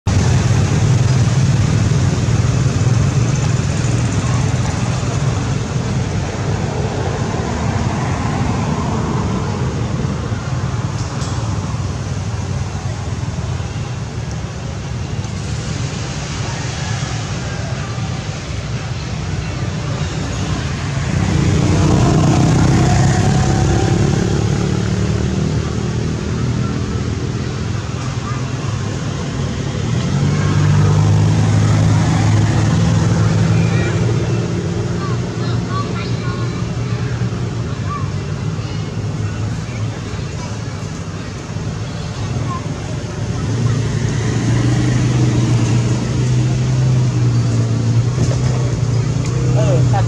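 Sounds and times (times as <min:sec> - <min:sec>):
vehicle engine passing: 0:00.1 - 0:50.0.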